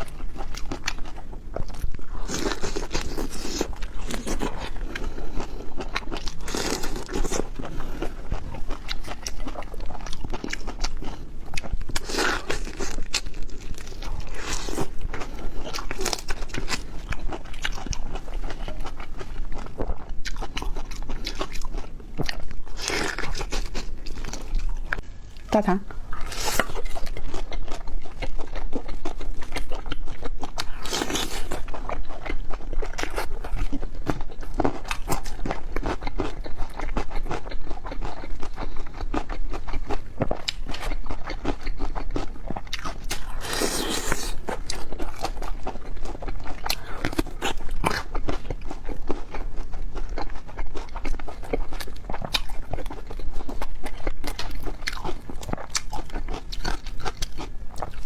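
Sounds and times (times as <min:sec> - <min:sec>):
crunchy chewing: 0:00.0 - 0:25.5, 0:26.1 - 0:58.0.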